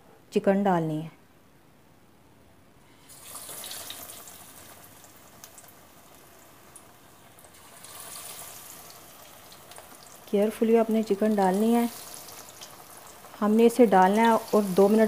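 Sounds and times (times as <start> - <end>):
hot oil sizzling and crackling: 2.9 - 15.0.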